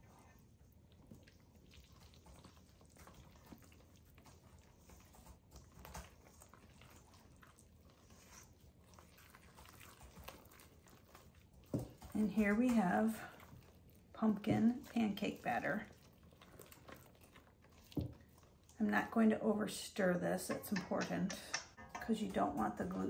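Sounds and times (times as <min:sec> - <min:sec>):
whisk stirring batter in bowl: 0:00.0 - 0:23.0.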